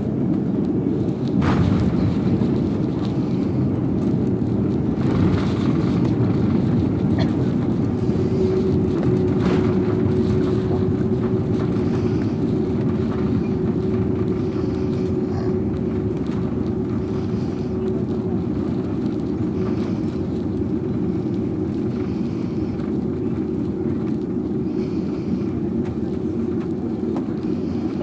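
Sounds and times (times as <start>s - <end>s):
jet engine rumble: 0.0s - 28.0s
steady hum: 0.0s - 28.0s.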